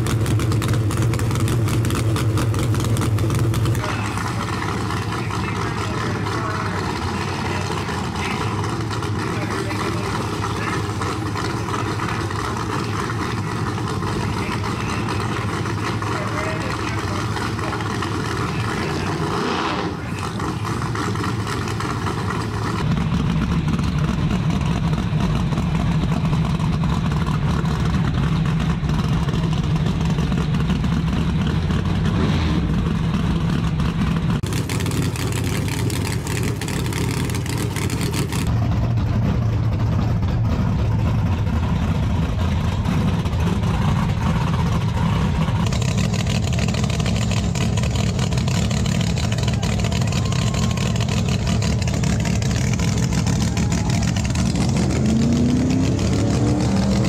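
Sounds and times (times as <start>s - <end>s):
race car engines running loud: 0.0s - 57.0s.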